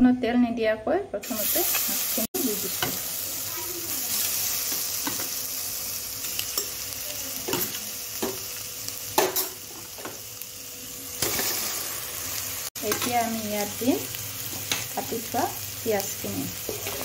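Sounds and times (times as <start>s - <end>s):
fish sizzling in a hot pan: 1.2s - 17.0s.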